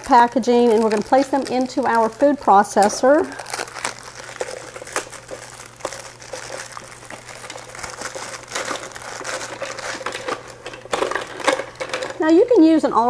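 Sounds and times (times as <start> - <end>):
packaging crinkling: 0.0 - 12.3.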